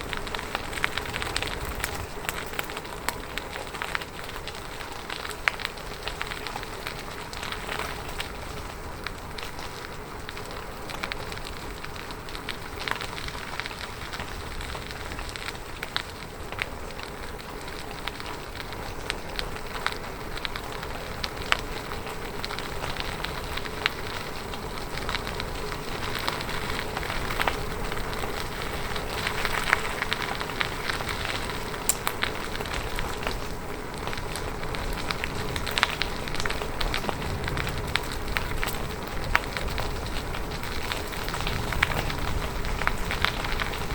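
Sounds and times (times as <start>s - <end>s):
bicycle tyres rolling on road: 0.0s - 43.9s
small clicks and ticks: 0.0s - 43.9s.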